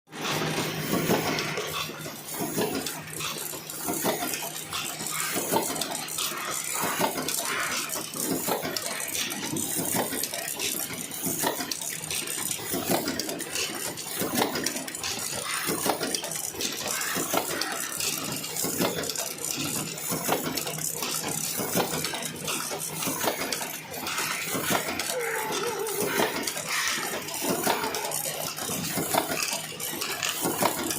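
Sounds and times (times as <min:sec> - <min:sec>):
boxing machine clattering: 0:00.1 - 0:30.9.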